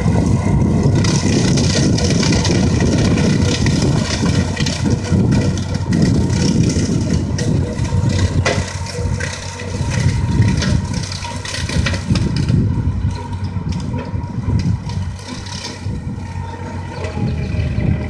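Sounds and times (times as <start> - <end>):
cornstalks crackling in chopper: 0.0 - 18.0
tractor engine rumbling under load: 0.0 - 18.0.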